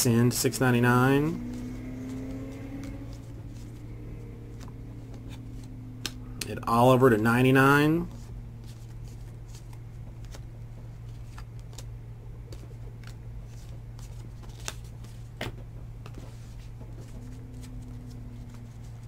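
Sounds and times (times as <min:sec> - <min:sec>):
low hum: 0:00.0 - 0:19.0
trading cards flipped through: 0:01.4 - 0:06.5, 0:08.1 - 0:19.0.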